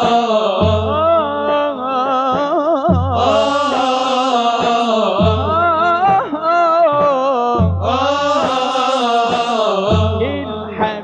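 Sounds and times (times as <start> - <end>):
drum beats: 0.0 - 11.0
male chorus singing in unison: 0.0 - 11.0.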